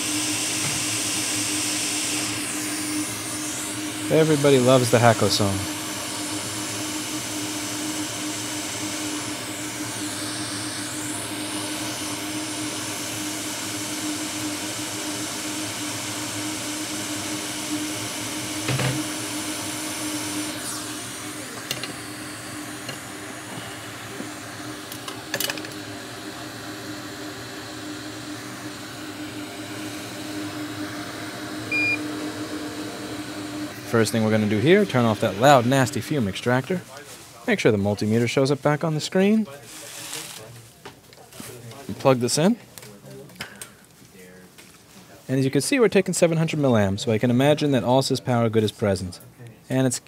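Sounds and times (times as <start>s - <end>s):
extractor fan running: 0.0s - 40.5s.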